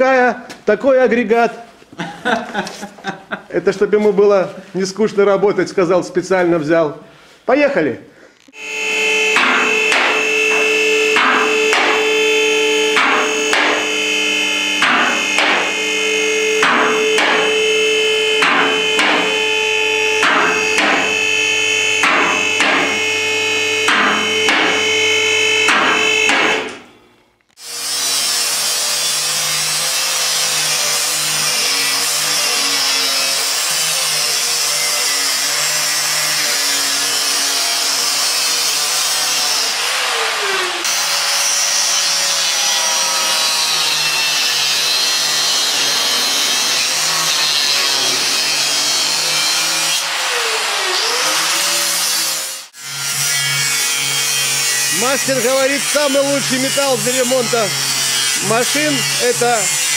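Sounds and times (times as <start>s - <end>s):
angle grinder grinding steel: 8.5s - 26.9s, 27.5s - 59.9s.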